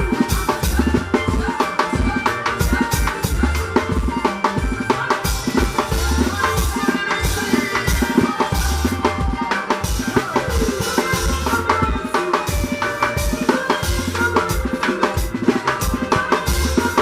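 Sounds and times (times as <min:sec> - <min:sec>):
bass and band instruments: 0:00.0 - 0:17.0
drum kit playing fast groove: 0:00.0 - 0:17.0.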